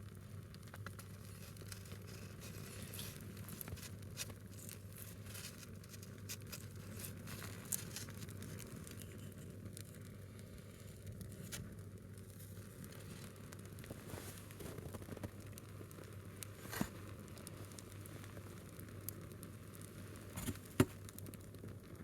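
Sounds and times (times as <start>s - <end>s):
log crackling in fire: 0.0s - 22.0s.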